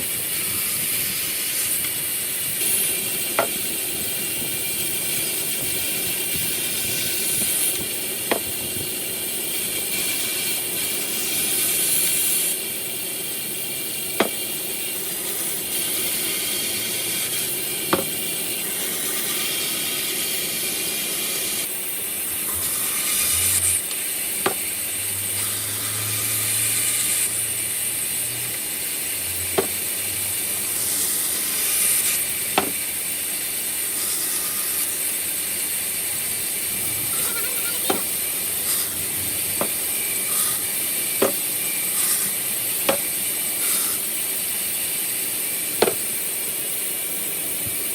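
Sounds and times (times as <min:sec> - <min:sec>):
woodworking machine hissing: 0:00.0 - 0:47.9.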